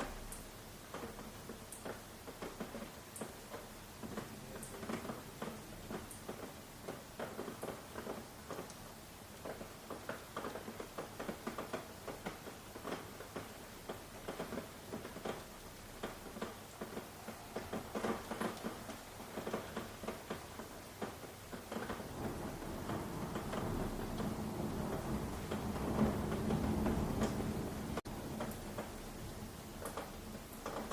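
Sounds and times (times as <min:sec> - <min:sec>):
hiss of rainfall: 0:00.0 - 0:30.9
raindrops pattering: 0:00.0 - 0:30.9.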